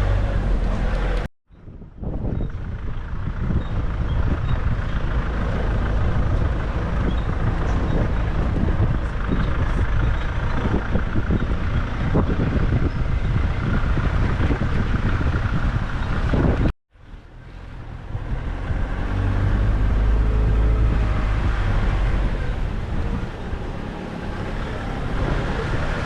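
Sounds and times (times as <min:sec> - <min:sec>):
vehicle engine and tyres rumbling: 0:00.0 - 0:26.0.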